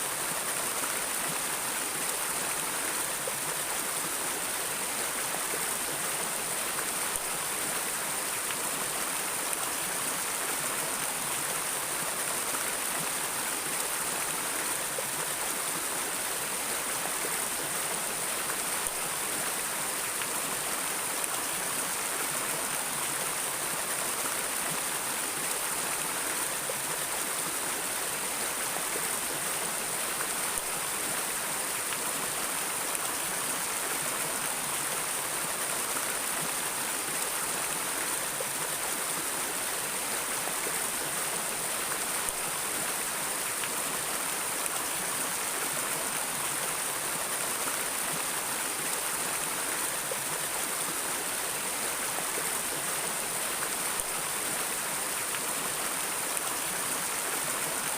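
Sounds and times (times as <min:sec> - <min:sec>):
flowing stream water: 0:00.0 - 0:57.9.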